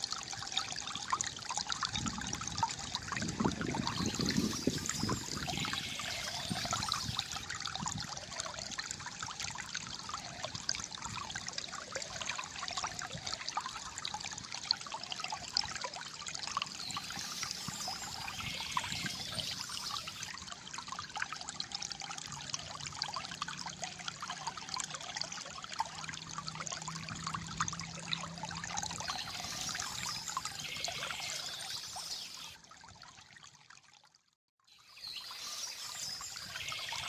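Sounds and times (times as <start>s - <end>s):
water trickling and gurgling: 0.0s - 37.0s.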